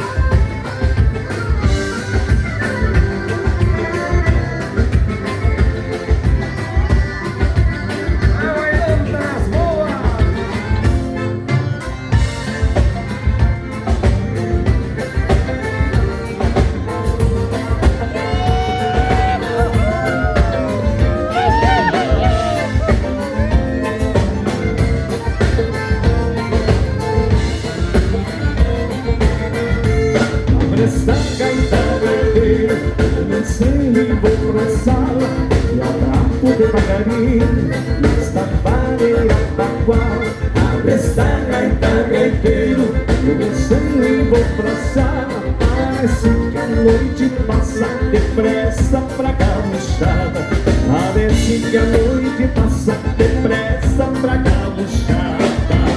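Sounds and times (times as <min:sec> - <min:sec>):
live dance band playing: 0:00.0 - 0:55.9.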